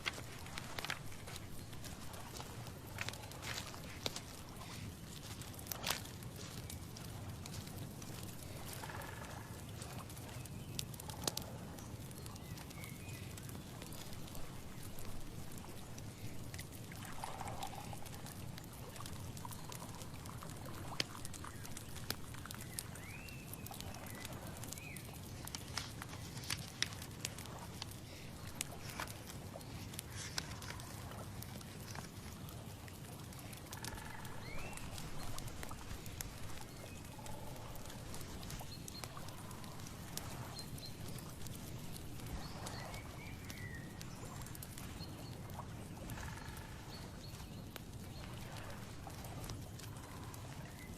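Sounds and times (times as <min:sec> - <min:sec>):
faint clicks and ticks: 0:00.0 - 0:50.9.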